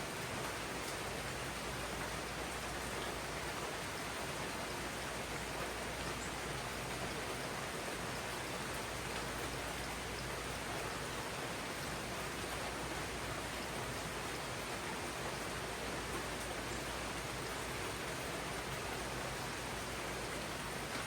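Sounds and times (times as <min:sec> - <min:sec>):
rain falling on foliage: 0:00.0 - 0:21.0.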